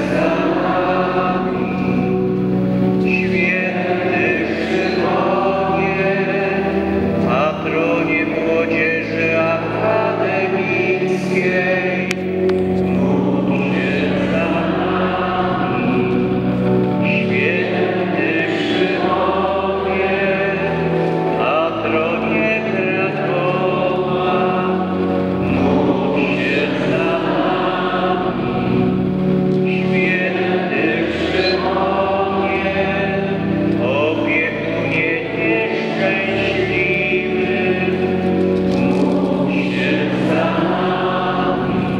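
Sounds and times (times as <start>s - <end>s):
voices singing a slow hymn: 0.0s - 41.9s.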